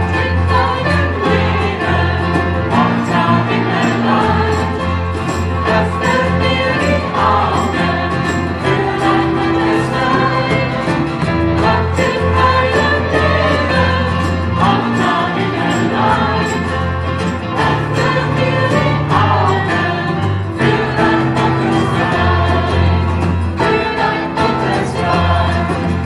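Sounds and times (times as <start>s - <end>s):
keyboard: 0.0s - 26.0s
people singing: 0.0s - 26.0s
strummed acoustic guitars: 0.0s - 26.0s
violin: 0.0s - 26.0s.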